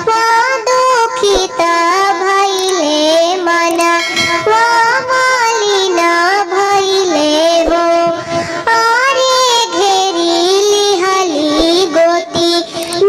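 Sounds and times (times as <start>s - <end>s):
high cartoon voice singing folk song: 0.0s - 13.0s.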